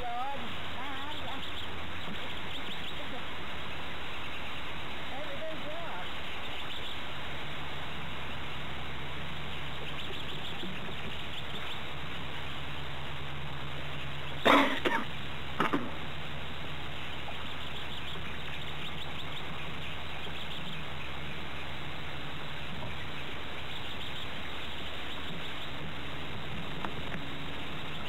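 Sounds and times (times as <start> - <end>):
faint birds chirping: 0.0 - 28.0
steady hiss and low hum: 0.0 - 28.0.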